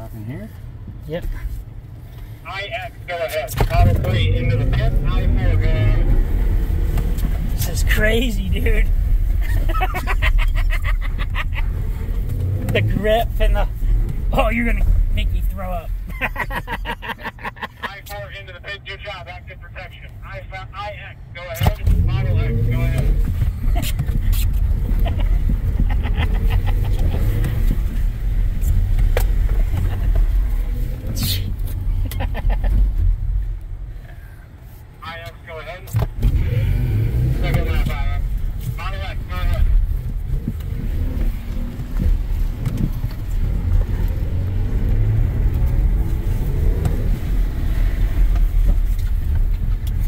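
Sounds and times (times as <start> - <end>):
tyre and road rumble: 0.0 - 18.5, 21.4 - 50.0.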